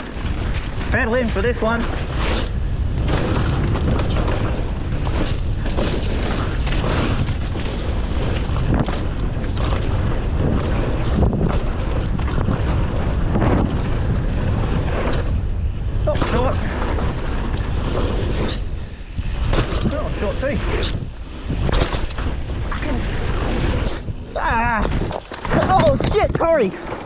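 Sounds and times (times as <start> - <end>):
bike knocking and rattling: 0.0 - 27.0
bike tyre noise: 0.0 - 27.0
wind rumble on microphone: 0.0 - 27.0.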